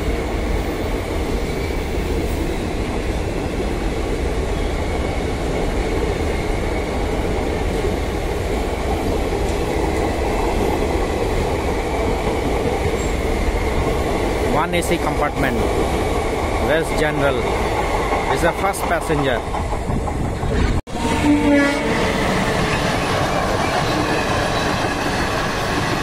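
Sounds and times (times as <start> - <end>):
train wheels running on rails: 0.0 - 26.0.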